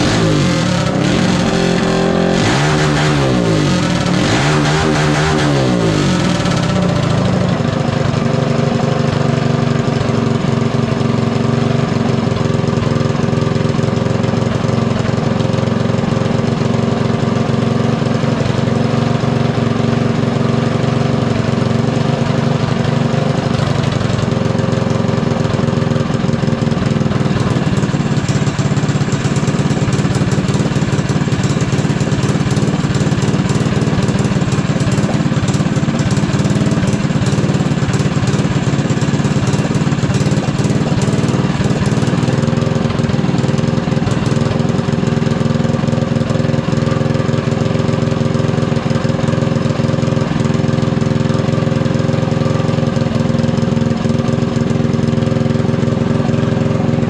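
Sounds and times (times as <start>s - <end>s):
small gasoline engine running: 0.0s - 57.0s.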